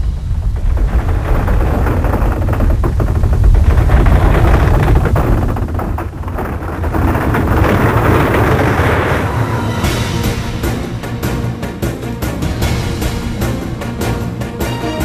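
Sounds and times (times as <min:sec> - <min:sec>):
crumbling stone rumble and crackles: 0:00.0 - 0:13.1.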